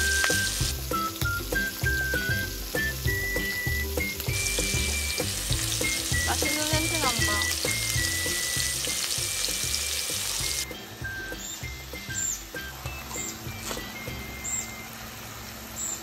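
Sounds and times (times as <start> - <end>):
background music with steady beat: 0.0 - 15.0
meat sizzling: 0.0 - 16.0.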